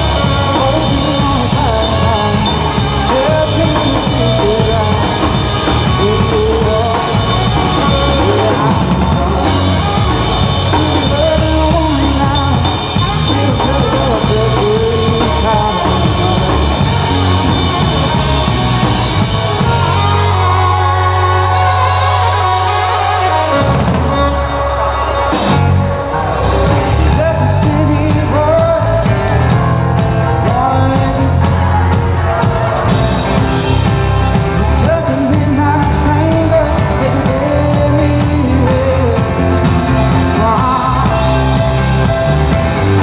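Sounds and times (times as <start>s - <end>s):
live band playing rock: 0.0s - 43.0s.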